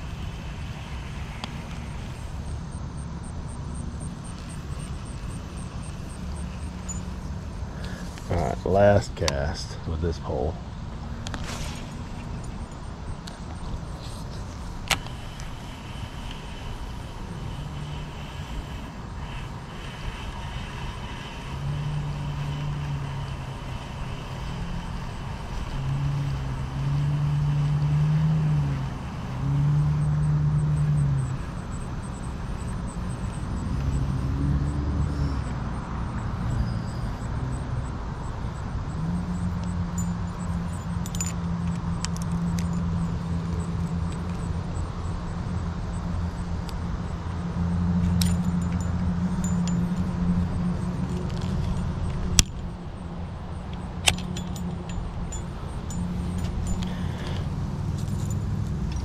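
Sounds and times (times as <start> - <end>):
low vehicle engine hum: 0.0 - 59.0.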